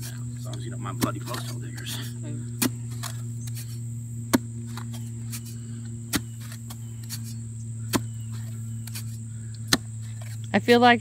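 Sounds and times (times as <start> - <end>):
post hole digger striking soil: 0.0 - 11.0.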